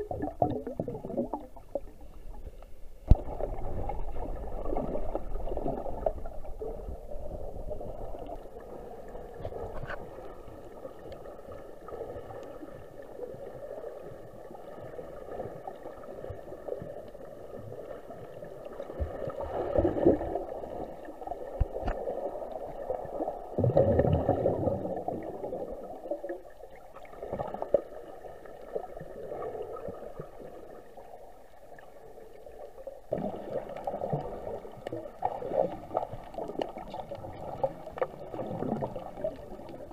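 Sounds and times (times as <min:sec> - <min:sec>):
muffled underwater water rushing: 0:00.0 - 0:39.9.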